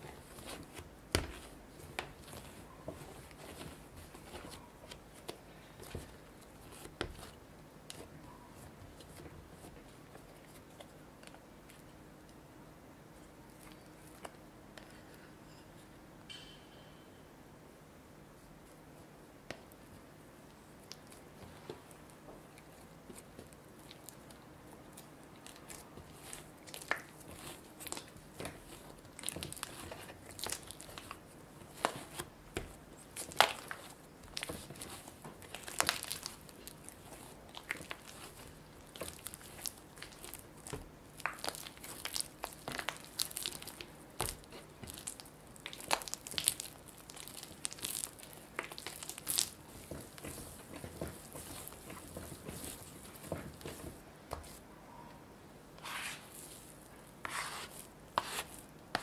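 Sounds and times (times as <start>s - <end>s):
hands kneading sticky dough: 0.0s - 15.2s, 18.2s - 54.7s, 55.7s - 59.0s.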